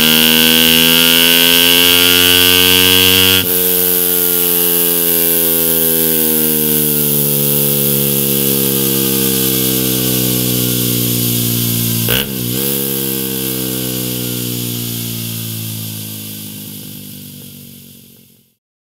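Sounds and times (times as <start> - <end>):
exhaust crack: 0.0 - 18.5
motorcycle engine at high revs: 0.0 - 18.6.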